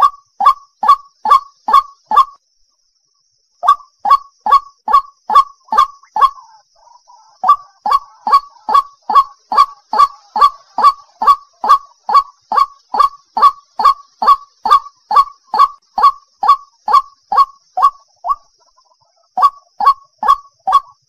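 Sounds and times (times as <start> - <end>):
waterhen calling: 0.0 - 2.4, 3.6 - 21.0.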